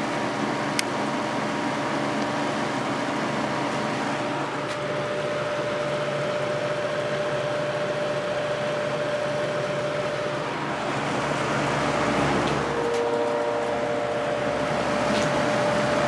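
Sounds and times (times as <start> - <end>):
box fan air rush: 0.0 - 16.0
fan motor hum: 0.0 - 16.0.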